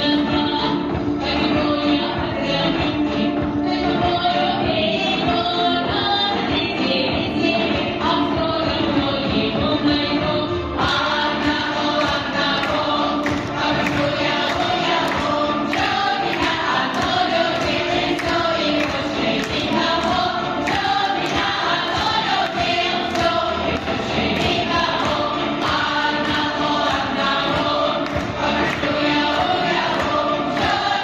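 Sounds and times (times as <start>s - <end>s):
choir singing: 0.0s - 31.0s
music with steady beat: 0.0s - 31.0s.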